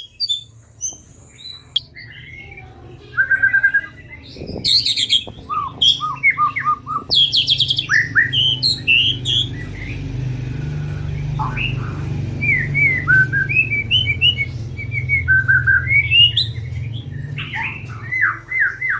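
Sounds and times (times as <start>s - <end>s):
bird singing whistled chirps: 0.0s - 2.6s, 3.2s - 10.1s, 12.4s - 18.9s
steady low hum: 0.6s - 18.2s.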